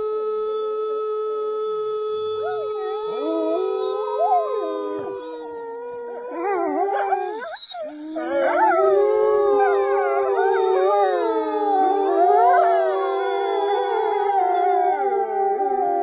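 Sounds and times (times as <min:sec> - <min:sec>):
dogs howling: 0:02.3 - 0:16.0.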